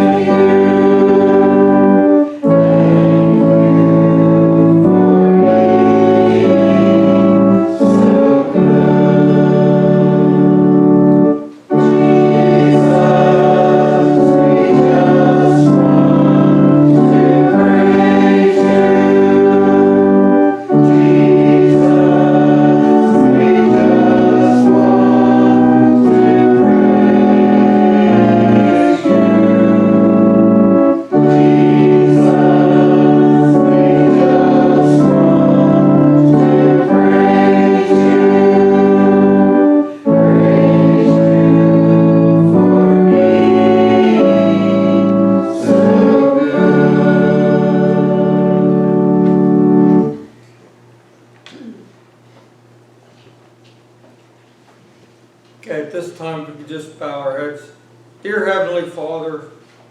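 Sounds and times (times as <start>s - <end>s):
choir singing a hymn: 0.0s - 50.3s
organ chords: 0.0s - 59.9s.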